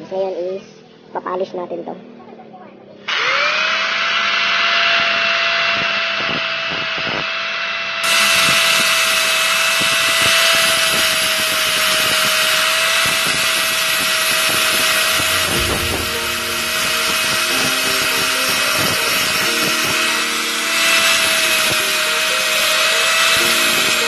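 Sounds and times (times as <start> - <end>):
angle grinder grinding metal: 3.1 - 24.0.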